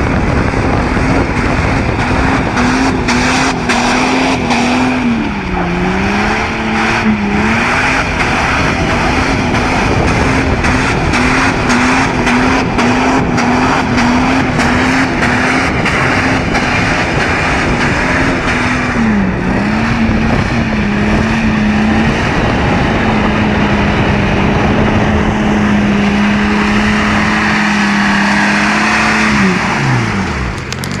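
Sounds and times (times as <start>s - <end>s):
car engine at high revs: 0.0s - 31.0s.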